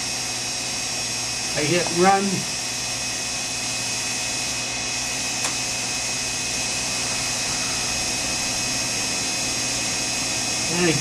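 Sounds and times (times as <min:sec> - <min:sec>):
grinding machine motor hum: 0:00.0 - 0:11.0.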